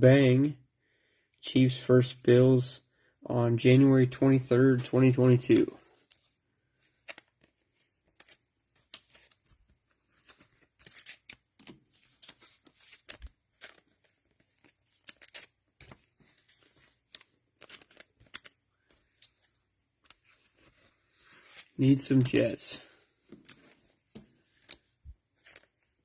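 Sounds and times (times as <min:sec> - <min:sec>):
cards and plastic wrapping rustling: 0:04.8 - 0:26.0.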